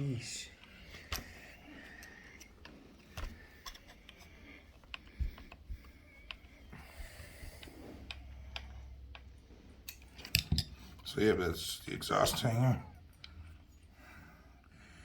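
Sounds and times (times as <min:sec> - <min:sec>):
tools clicking and tapping on parts: 0:00.6 - 0:11.3, 0:12.1 - 0:13.8.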